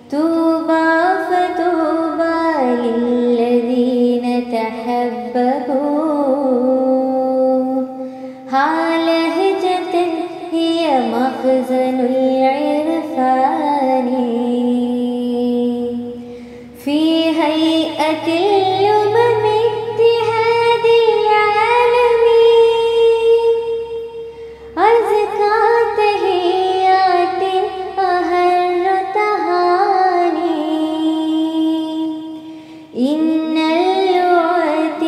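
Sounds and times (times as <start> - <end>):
woman chanting melodically: 0.0 - 35.0.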